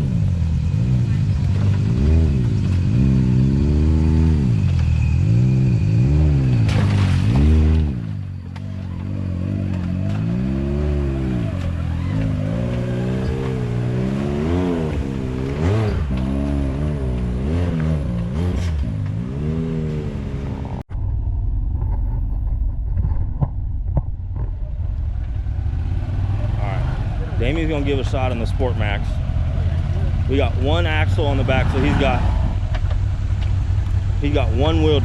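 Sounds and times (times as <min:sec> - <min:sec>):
utv engine revving: 0:00.0 - 0:20.8, 0:24.8 - 0:35.0
dull engine running: 0:00.0 - 0:35.0.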